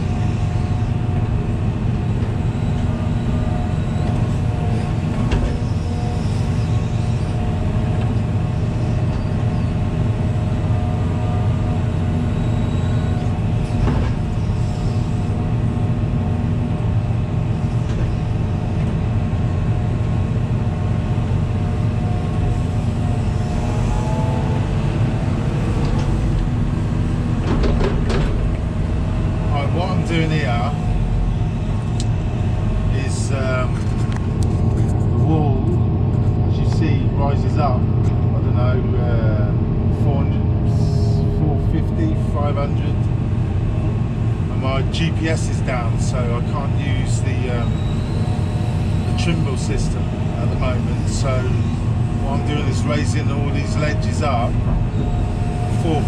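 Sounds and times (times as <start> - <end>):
excavator engine and hydraulics: 0.0 - 56.0
hydraulic rising whine: 0.0 - 56.0.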